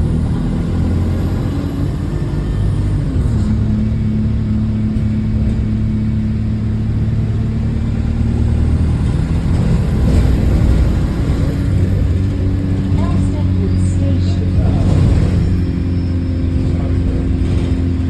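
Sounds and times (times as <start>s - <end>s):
bus engine with exhaust leak: 0.0s - 18.0s.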